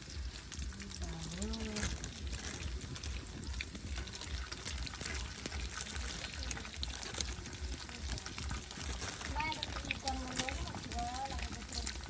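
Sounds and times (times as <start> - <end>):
pot bubbling over fire: 0.0 - 12.0.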